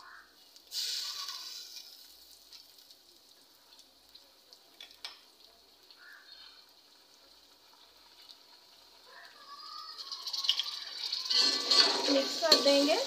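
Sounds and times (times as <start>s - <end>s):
food sizzling in a pot: 0.0s - 13.0s
light crackle: 0.0s - 13.0s.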